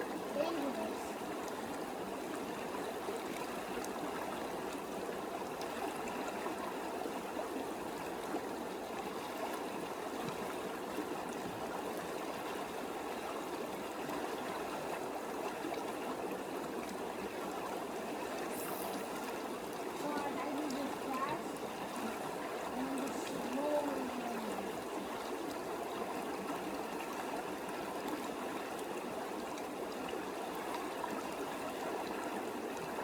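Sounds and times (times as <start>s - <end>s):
creek trickling over rocks: 0.0s - 33.0s.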